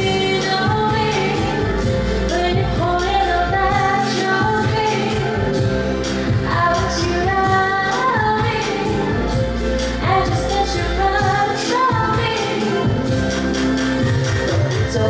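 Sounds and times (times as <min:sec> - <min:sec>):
live pop band: 0:00.0 - 0:15.0
woman singing: 0:00.0 - 0:15.0.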